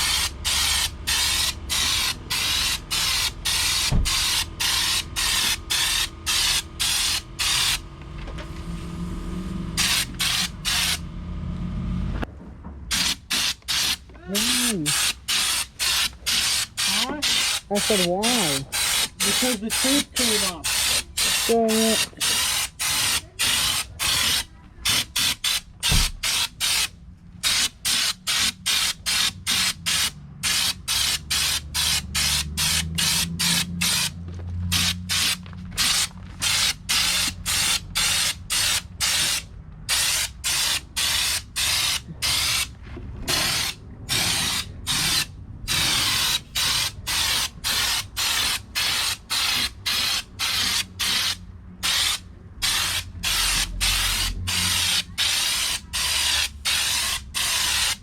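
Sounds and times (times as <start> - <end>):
spray gun hissing in bursts: 0.0 - 7.8, 9.8 - 11.0, 12.9 - 34.1, 34.7 - 42.7, 43.3 - 58.0.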